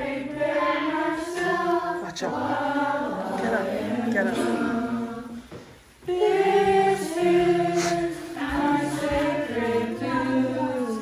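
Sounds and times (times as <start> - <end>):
group singing unaccompanied: 0.0 - 11.0.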